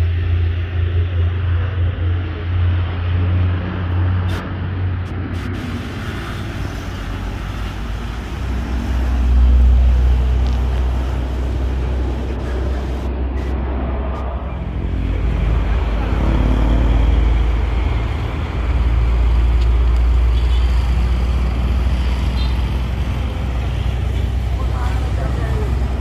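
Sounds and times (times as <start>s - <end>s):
heavy vehicle engine rumble: 0.0s - 26.0s.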